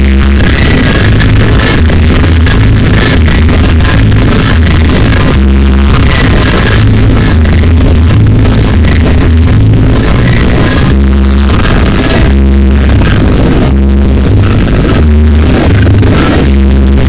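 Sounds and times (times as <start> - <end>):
loud dance music with heavy bass: 0.0 - 17.0.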